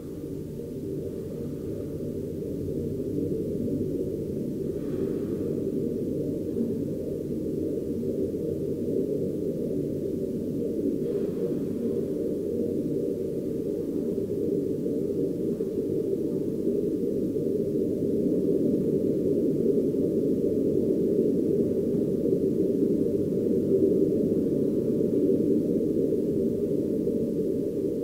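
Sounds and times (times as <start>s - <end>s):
low rumbling drone: 0.0s - 27.8s
faint thin steady tone: 0.0s - 28.0s.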